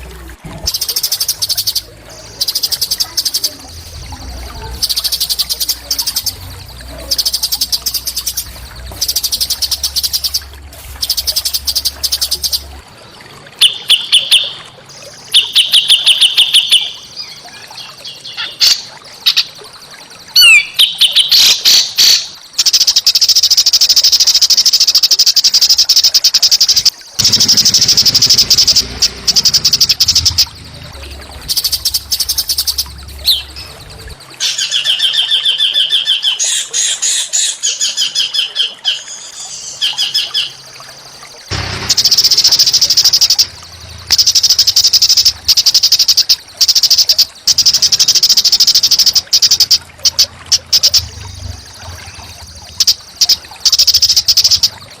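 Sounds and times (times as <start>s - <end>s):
songbirds chattering trills: 0.0s - 55.0s.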